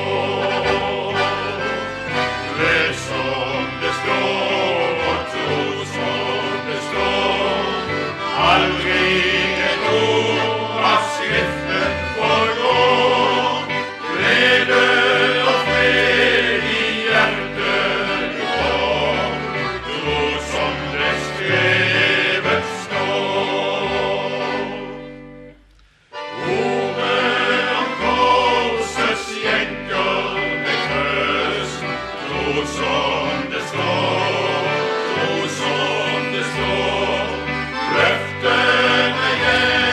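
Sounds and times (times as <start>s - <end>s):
vocal group singing in harmony: 0.0s - 25.2s, 26.3s - 39.9s
instrumental accompaniment with bass: 0.0s - 39.9s.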